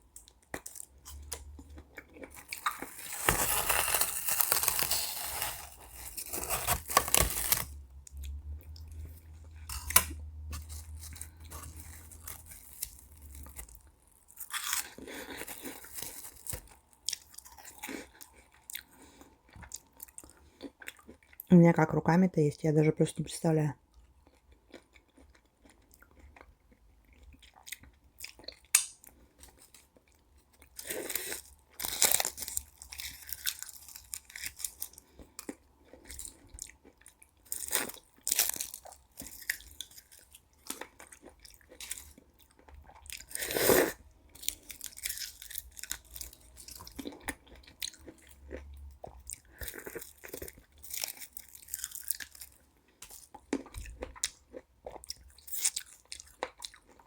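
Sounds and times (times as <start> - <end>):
meringue crunching and chewing: 0.0 - 21.5, 23.9 - 57.0.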